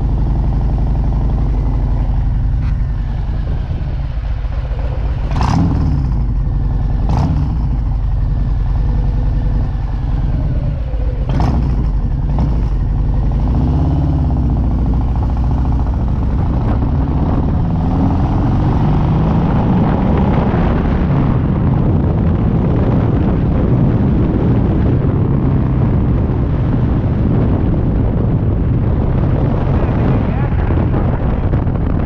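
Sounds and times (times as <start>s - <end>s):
motorcycle engine accelerating: 0.0s - 32.0s
wind noise on microphone: 0.0s - 32.0s.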